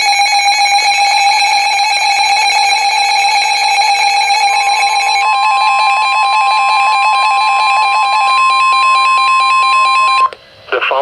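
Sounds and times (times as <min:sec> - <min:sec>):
electronic alert tones: 0:00.0 - 0:10.3.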